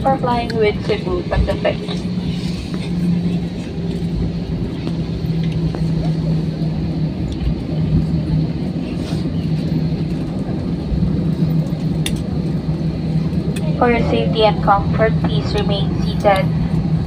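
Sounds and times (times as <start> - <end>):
airplane cabin rumble and hum: 0.0 - 17.0.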